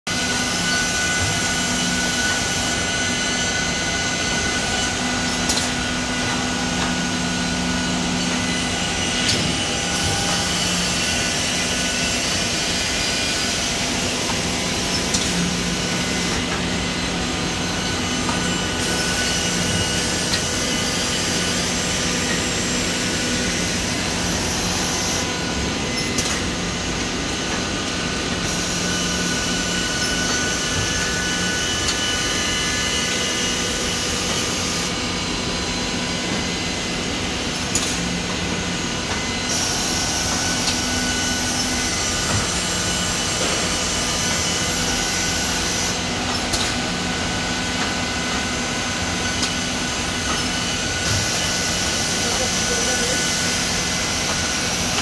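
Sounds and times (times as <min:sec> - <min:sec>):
machine running with hum: 0:00.1 - 0:55.0.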